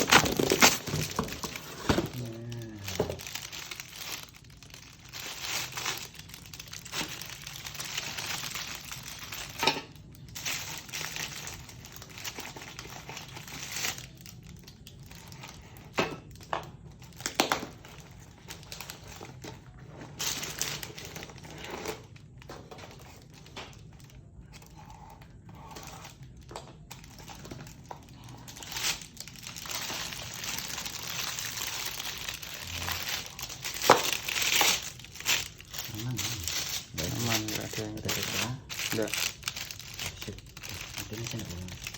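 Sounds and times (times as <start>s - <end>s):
packaging wrap rustling: 0.0s - 41.9s.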